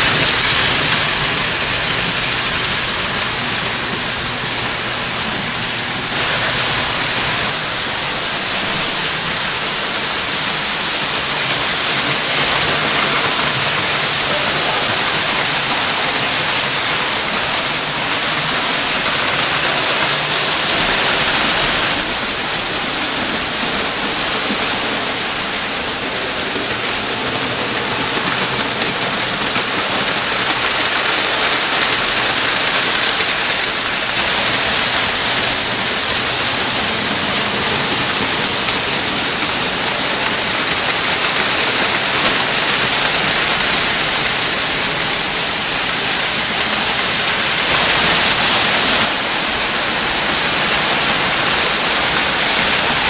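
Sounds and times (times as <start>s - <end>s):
toy trains running on track: 0.0s - 53.0s.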